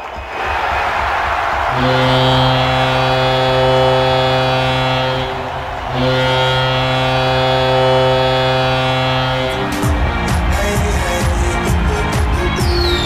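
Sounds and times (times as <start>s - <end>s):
deep stadium horn blasts: 1.7s - 13.0s.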